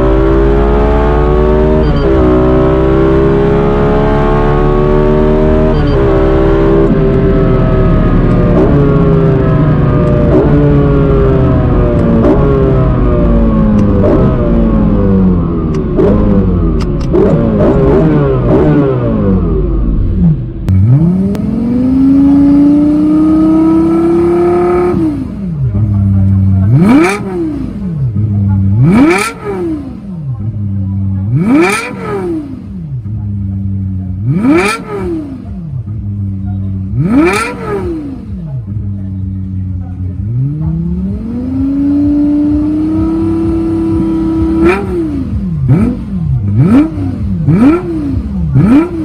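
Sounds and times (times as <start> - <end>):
car engine idling and revving: 0.0 - 49.0
sports car accelerating hard: 0.0 - 49.0.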